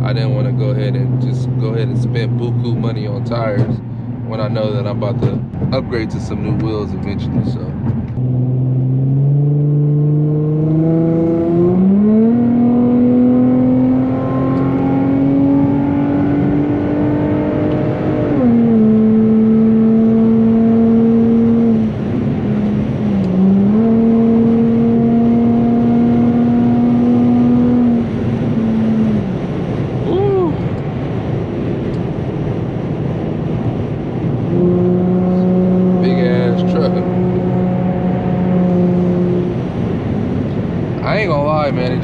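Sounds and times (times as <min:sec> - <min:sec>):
loud car engine accelerating: 0:00.0 - 0:42.0.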